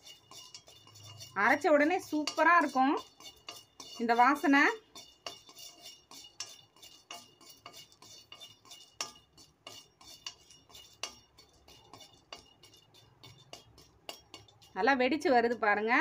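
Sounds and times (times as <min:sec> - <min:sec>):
spatula scraping pods on pan: 0:00.0 - 0:16.0.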